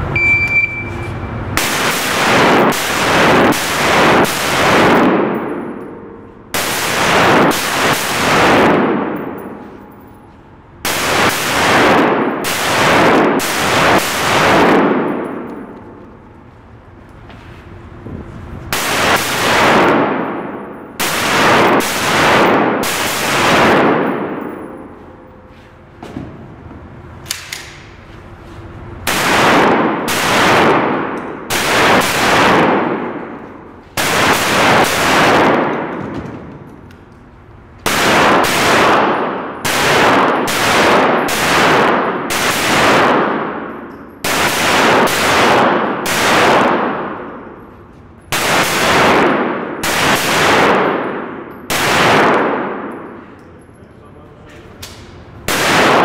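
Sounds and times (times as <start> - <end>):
gunshots echoing indoors: 1.5 - 28.1, 28.9 - 56.0.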